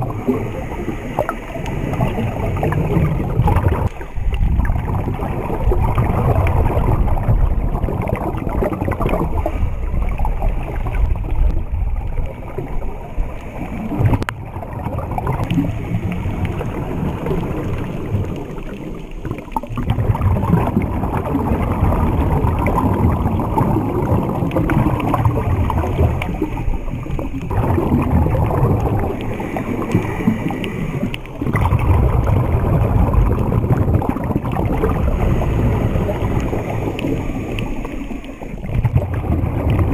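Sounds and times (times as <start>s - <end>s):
exhaled air bubbles gurgling: 0.0s - 39.9s
muffled underwater rumble: 0.0s - 39.9s.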